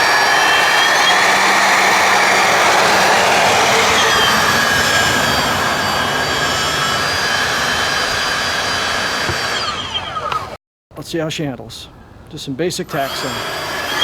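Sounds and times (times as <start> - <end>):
electric ducted fans whining: 0.0 - 14.0.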